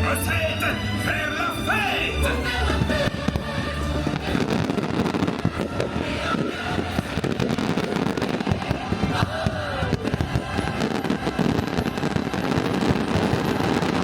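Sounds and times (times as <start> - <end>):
fireworks crackling and popping: 2.6 - 14.0.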